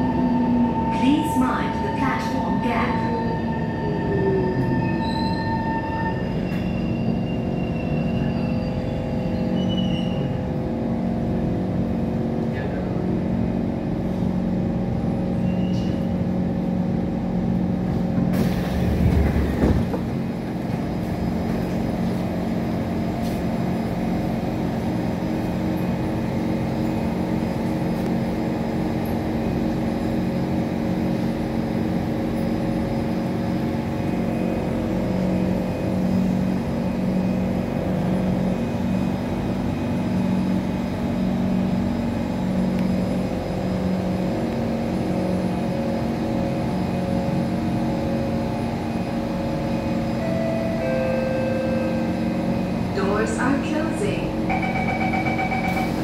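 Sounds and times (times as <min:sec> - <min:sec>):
train running sound: 0:00.0 - 0:56.0.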